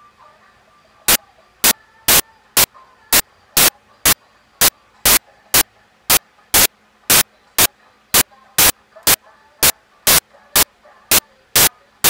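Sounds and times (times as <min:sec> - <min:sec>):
bursts of static: 0:01.1 - 0:11.8.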